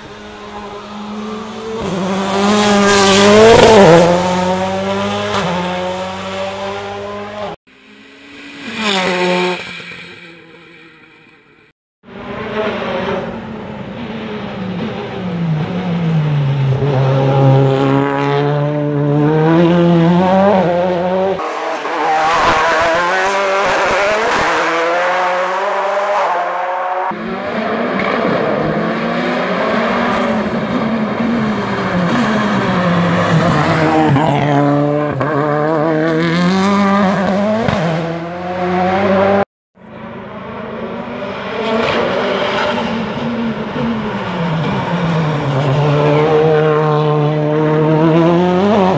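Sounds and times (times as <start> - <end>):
rally car engine revving: 0.0 - 7.6, 8.2 - 11.1, 12.1 - 48.9.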